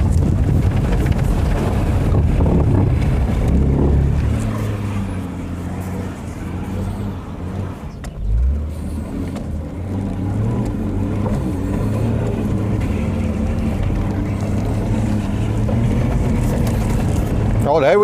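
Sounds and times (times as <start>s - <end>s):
car engine running hard: 0.0s - 18.0s.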